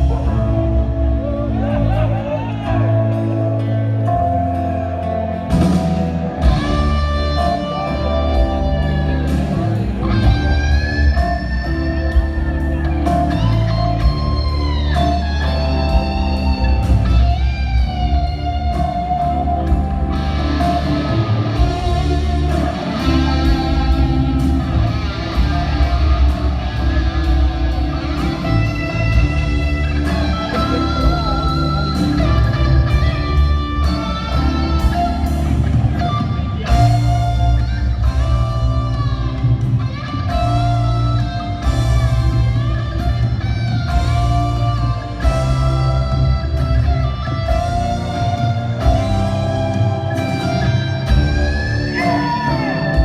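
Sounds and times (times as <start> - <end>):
rock music with electric guitar: 0.0 - 53.0.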